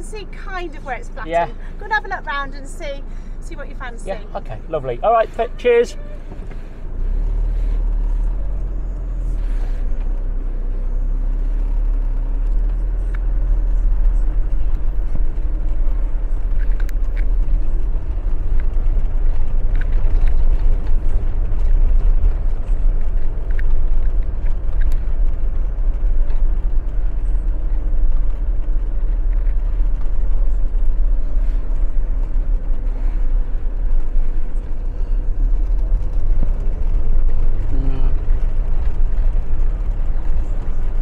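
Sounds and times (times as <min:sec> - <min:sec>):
motorhome engine rumble: 0:00.0 - 0:41.0.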